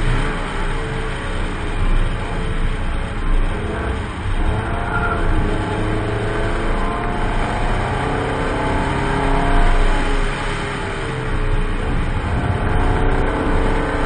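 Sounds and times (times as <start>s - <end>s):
car engine pulling hard: 0.0s - 14.0s
road and wind noise: 0.0s - 14.0s.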